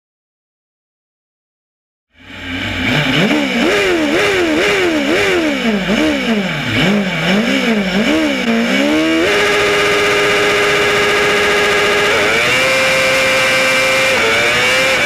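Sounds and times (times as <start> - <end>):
kart engine revving: 2.2 - 15.0.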